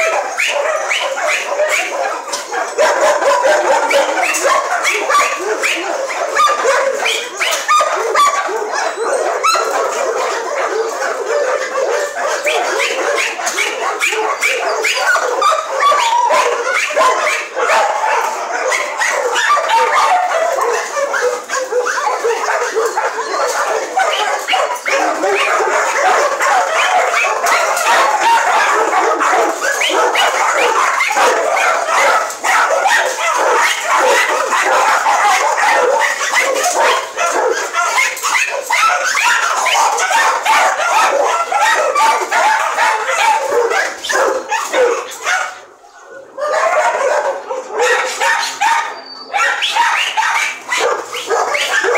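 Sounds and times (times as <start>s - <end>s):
dogs barking and yelping: 0.0s - 51.9s.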